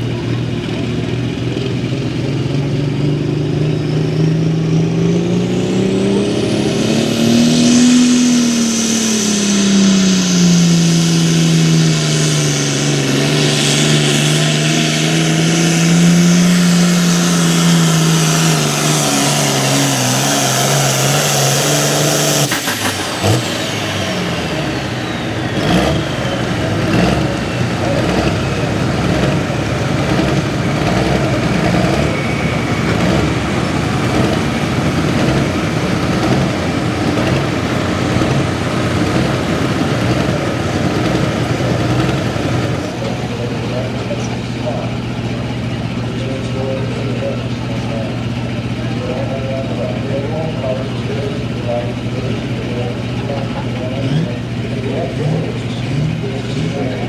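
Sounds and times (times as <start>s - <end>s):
diesel tractor engine at full throttle: 0.0s - 57.0s
high turbo whine: 0.0s - 57.0s.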